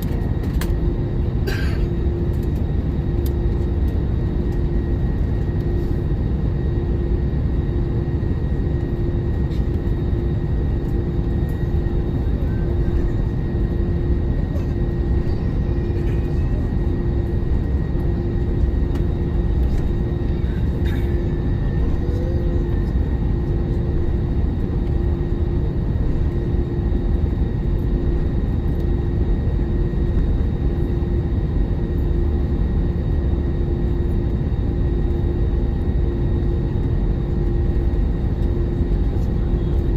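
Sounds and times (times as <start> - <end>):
airliner engines rumbling in cabin: 0.0 - 39.9
constant cabin hum: 0.0 - 39.9.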